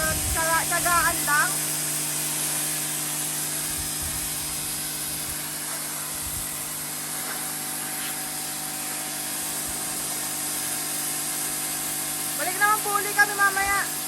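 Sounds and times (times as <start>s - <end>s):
pressure washer motor humming: 0.0s - 14.0s
water spray hissing: 0.0s - 14.0s.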